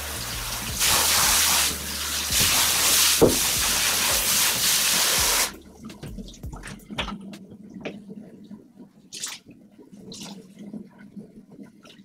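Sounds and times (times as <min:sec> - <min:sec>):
water dripping into a bathtub: 0:00.1 - 0:12.0.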